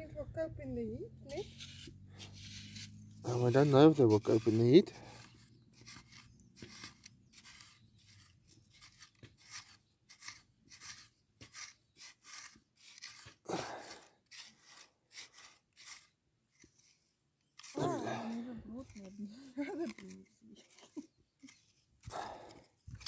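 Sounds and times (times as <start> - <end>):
cultivator scraping dry soil: 1.3 - 23.0.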